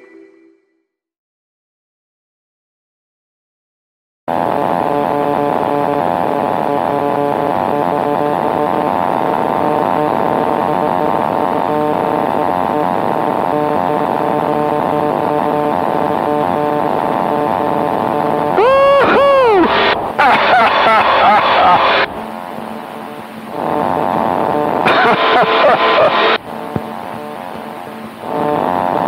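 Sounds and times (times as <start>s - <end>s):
light aircraft engine and propeller: 4.8s - 29.0s.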